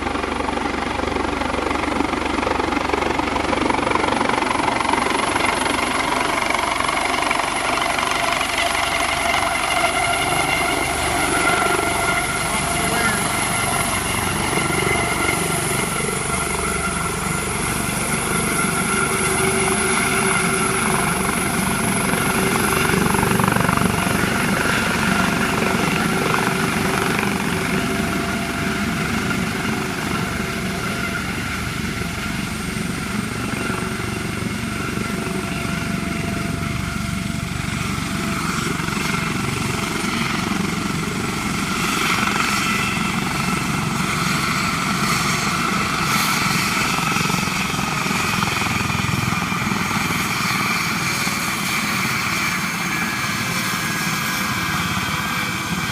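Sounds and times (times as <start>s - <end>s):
helicopter rotor and engine: 0.0s - 55.9s.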